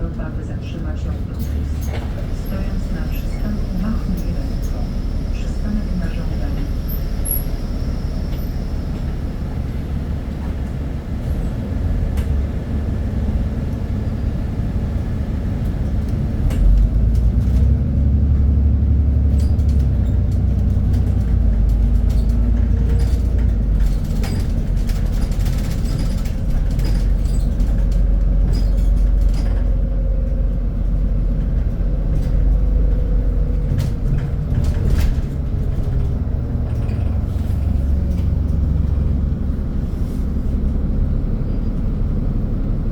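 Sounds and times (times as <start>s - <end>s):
bus diesel engine rumbling: 0.0s - 42.9s.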